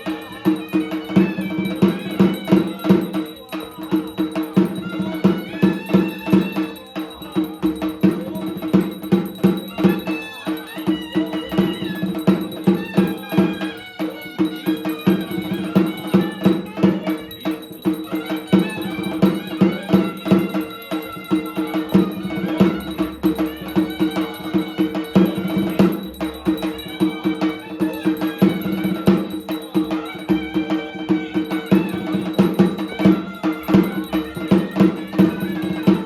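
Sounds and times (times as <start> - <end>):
rhythmic percussion strikes: 0.0 - 36.0
steady held tones: 0.0 - 36.0.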